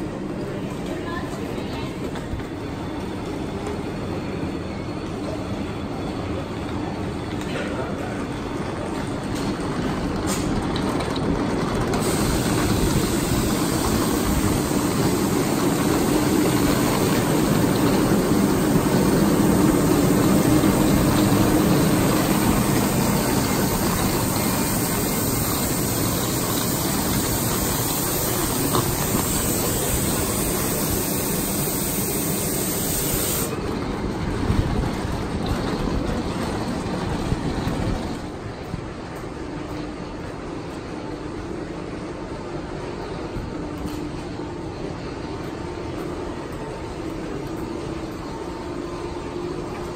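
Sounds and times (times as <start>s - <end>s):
trains hissing rumble: 0.0s - 49.9s.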